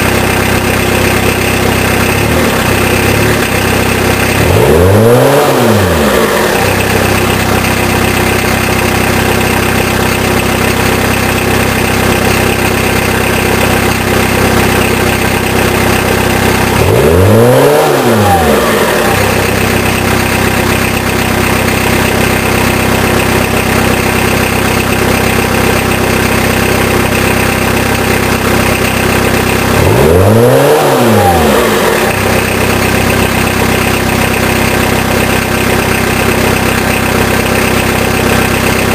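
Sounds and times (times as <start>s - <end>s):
diesel car engine idling and revving: 0.0s - 38.9s.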